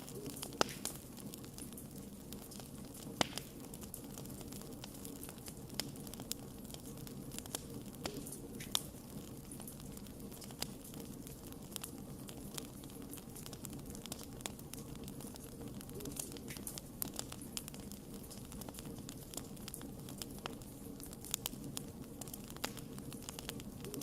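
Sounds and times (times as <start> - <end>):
fire crackles and pops: 0.0 - 24.0
low rumble of flame: 0.0 - 24.0.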